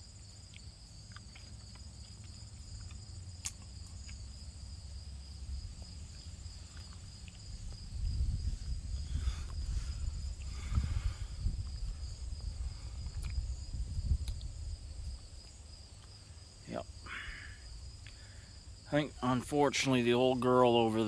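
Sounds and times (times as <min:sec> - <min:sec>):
insects chirring in grass: 0:00.0 - 0:21.0.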